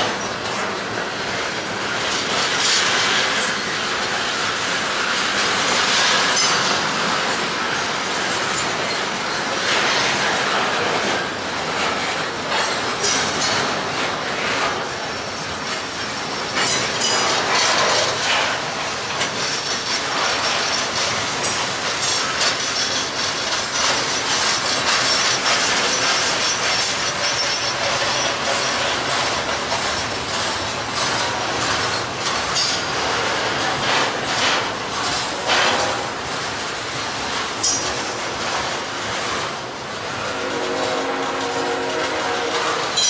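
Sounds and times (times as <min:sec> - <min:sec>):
wheels clicking over track: 0:00.0 - 0:40.0
freight train wheels rumbling: 0:00.0 - 0:43.0.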